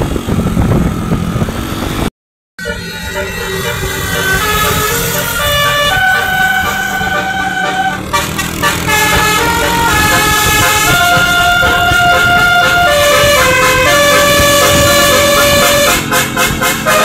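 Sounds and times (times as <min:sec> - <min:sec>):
low rumble of bus and traffic: 0:00.0 - 0:17.0
musical bus horn playing a tune: 0:02.6 - 0:17.0.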